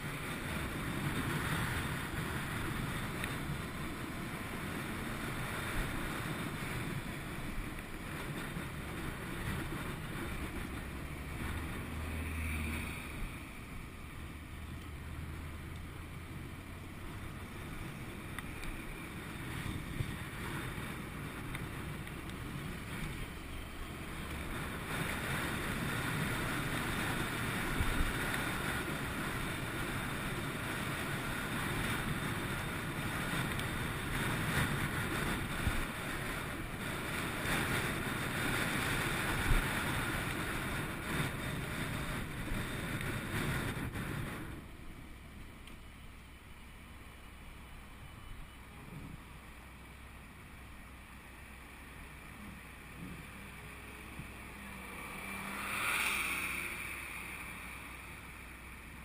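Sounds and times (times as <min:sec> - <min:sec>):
wind rushing over camera: 0:00.0 - 0:46.4, 0:47.3 - 0:59.0
low motorcycle engine hum: 0:00.0 - 0:59.0.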